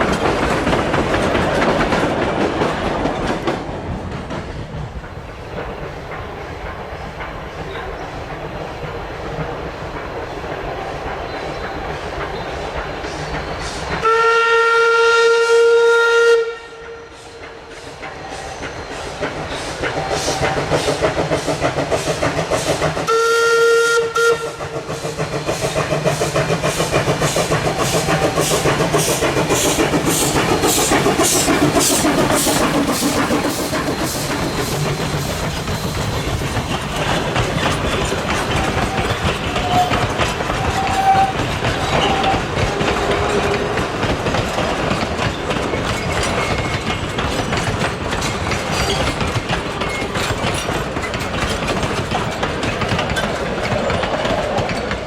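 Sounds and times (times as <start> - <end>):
wheels clacking over rail joints: 0.0 - 14.2, 16.8 - 55.0
steam locomotive chuffing: 0.0 - 55.0.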